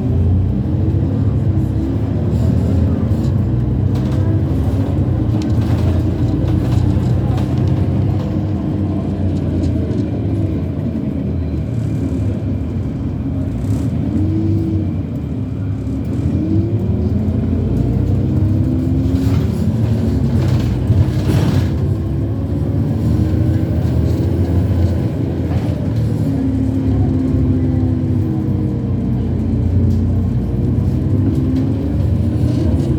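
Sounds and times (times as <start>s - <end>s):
bus engine low rumble: 0.0s - 32.9s.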